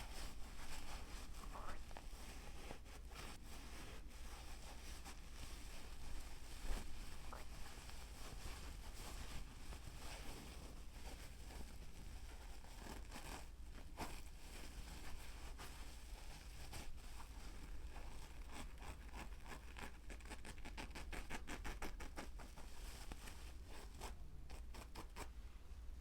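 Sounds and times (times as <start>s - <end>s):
soft scratching and rustling: 0.0s - 26.0s.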